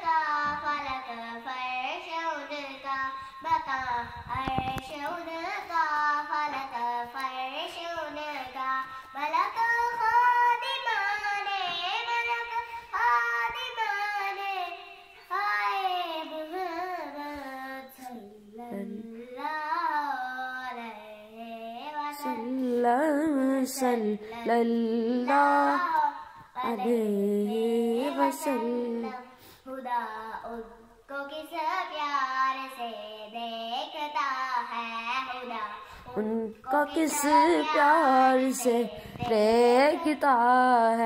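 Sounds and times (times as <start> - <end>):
girl singing unaccompanied: 0.0 - 41.0.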